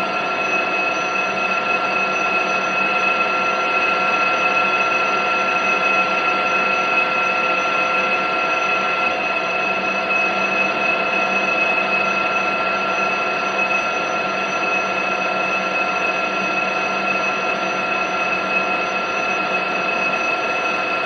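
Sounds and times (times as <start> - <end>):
metal lathe whining: 0.0 - 21.0.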